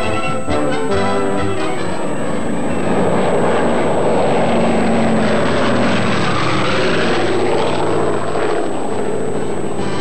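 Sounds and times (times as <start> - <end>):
propeller airliner droning past: 0.0 - 10.0.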